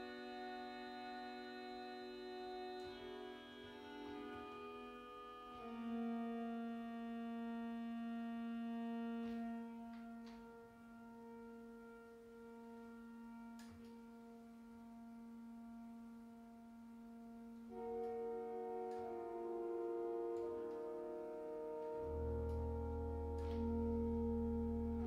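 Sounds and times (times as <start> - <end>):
organ playing sustained chords: 0.0 - 25.0.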